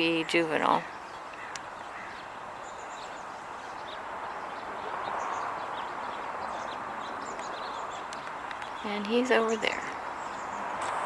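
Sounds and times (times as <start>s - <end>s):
passing road traffic: 0.0s - 11.0s
small birds chirping: 0.0s - 11.0s.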